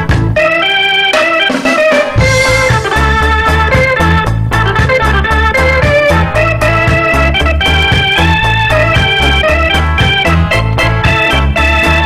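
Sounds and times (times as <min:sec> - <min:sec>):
music with pulsing bass line: 0:00.0 - 0:12.0.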